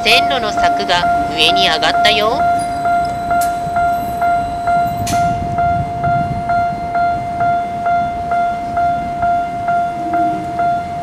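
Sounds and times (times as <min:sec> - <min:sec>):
level crossing warning bell ringing: 0:00.0 - 0:11.0.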